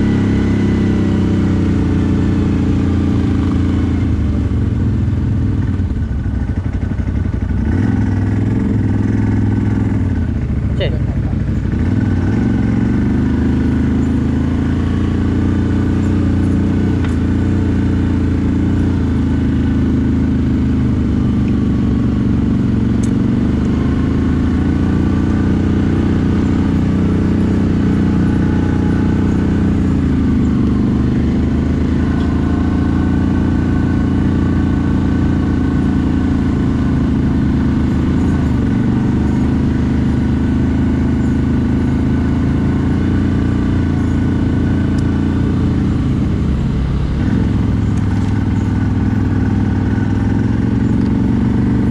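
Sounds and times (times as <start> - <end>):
atv engine running: 0.0 - 51.9.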